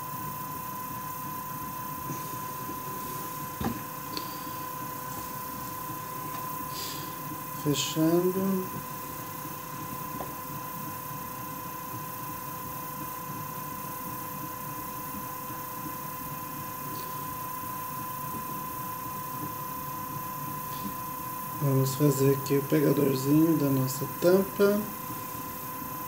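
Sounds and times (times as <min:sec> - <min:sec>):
potter's wheel humming: 0:00.0 - 0:26.0.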